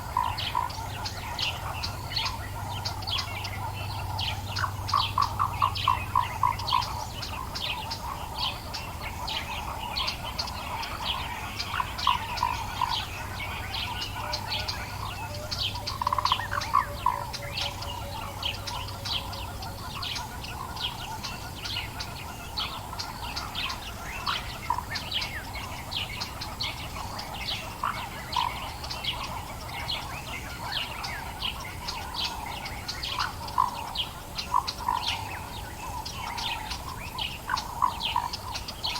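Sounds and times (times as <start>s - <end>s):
birds chirping: 0.0s - 38.9s
lower repeated bird notes: 0.0s - 38.9s.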